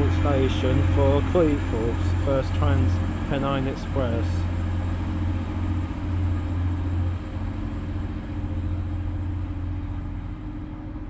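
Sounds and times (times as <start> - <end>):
diesel train engine drone: 0.0 - 11.0.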